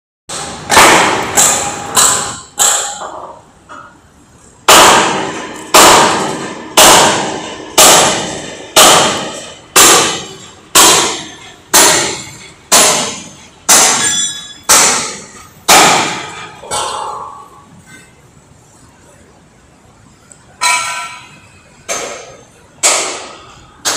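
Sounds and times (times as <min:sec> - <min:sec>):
hammer clanging on steel: 0:00.3 - 0:04.0, 0:04.7 - 0:18.2, 0:20.6 - 0:23.9.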